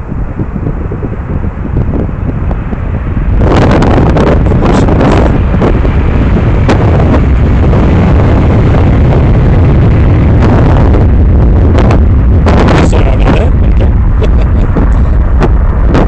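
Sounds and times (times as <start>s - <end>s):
jet engines rumbling at takeoff: 0.0s - 16.0s.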